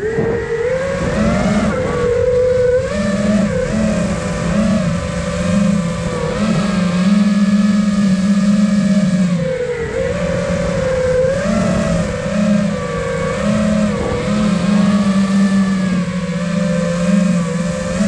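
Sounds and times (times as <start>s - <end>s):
quadcopter propellers buzzing: 0.0s - 18.0s.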